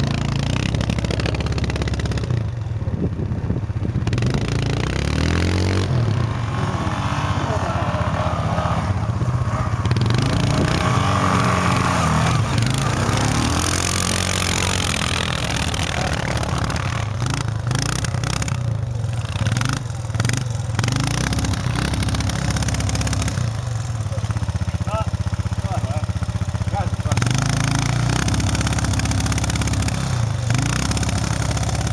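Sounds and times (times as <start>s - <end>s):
wheels spinning in snow: 0.0s - 26.0s
quad bike engines revving: 0.0s - 31.9s.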